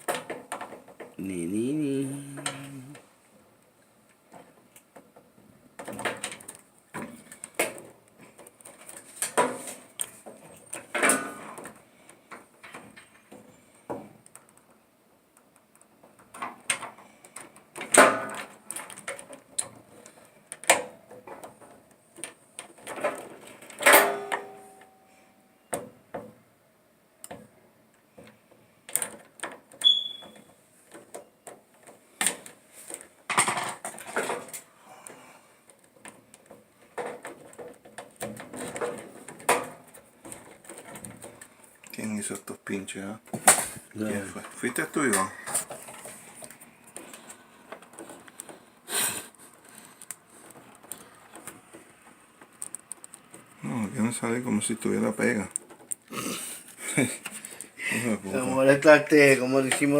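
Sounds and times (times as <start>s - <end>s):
dryer parts knocking and scraping: 0.0s - 1.2s, 4.2s - 14.8s, 15.8s - 25.0s, 27.3s - 42.6s, 43.2s - 56.0s, 56.7s - 59.9s.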